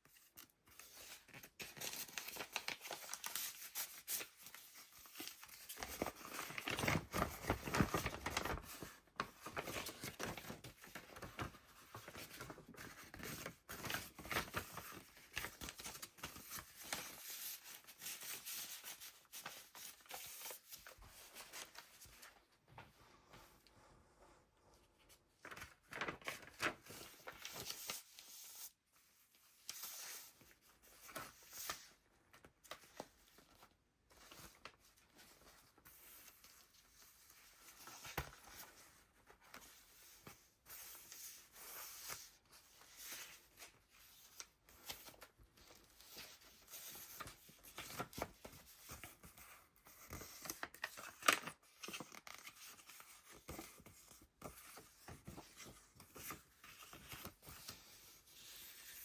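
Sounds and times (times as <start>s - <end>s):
paper pages rustling: 0.1s - 23.5s, 25.1s - 59.0s.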